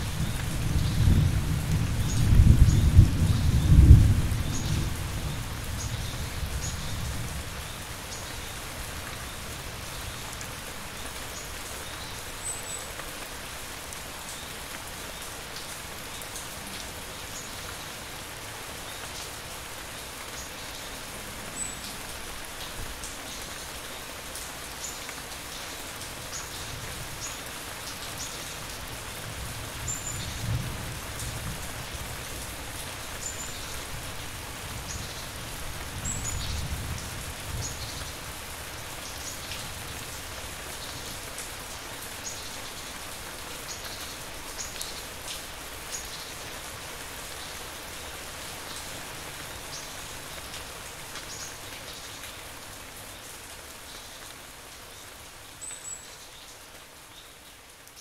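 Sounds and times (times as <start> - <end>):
raindrops pattering: 0.0 - 58.0
steady rainfall: 0.0 - 58.0.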